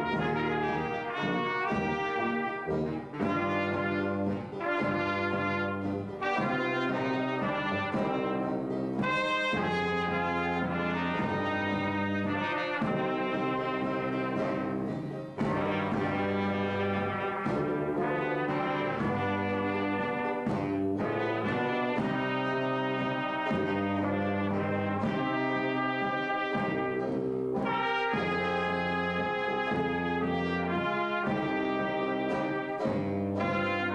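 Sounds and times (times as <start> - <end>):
small brass band playing: 0.0 - 33.9.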